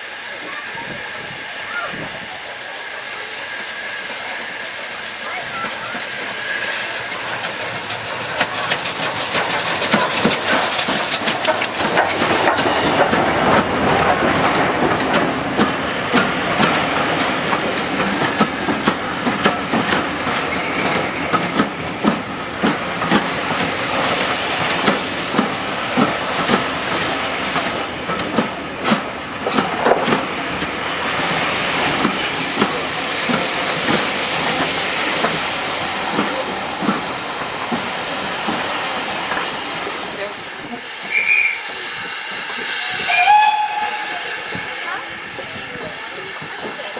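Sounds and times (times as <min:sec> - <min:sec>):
steam hiss: 0:00.0 - 0:46.9
train wheels clicking over rail joints: 0:04.2 - 0:46.9.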